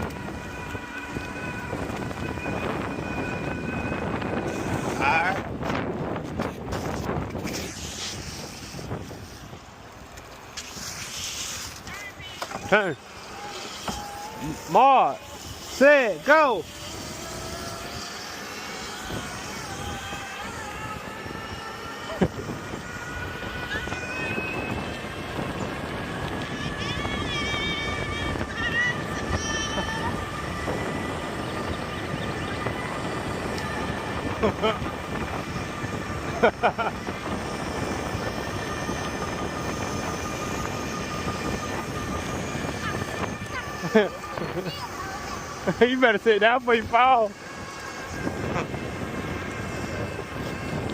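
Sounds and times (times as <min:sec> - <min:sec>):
electric bike motor whining: 0:00.0 - 0:50.9
road noise: 0:00.0 - 0:50.9
wind: 0:00.0 - 0:50.9.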